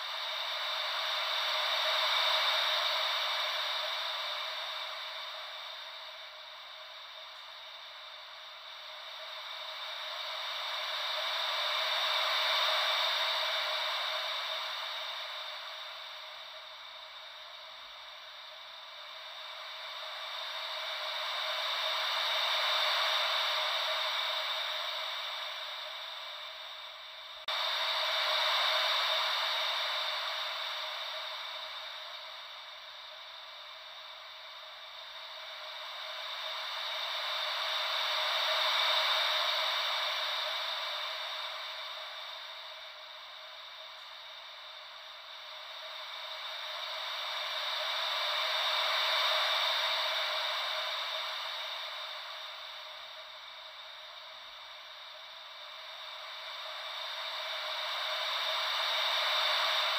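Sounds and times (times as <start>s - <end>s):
ocean wave white noise: 0.0s - 59.9s.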